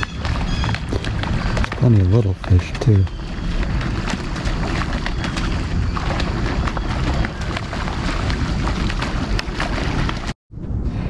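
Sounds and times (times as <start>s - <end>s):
water lapping and splashing: 0.0s - 10.4s
wind rumbling on microphone: 0.0s - 11.0s.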